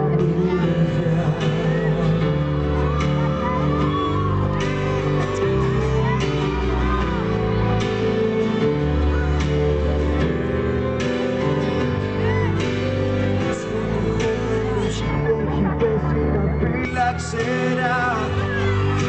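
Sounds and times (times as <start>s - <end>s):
live band playing: 0.0s - 19.0s
voices shouting and whooping: 0.4s - 13.5s, 14.1s - 19.0s.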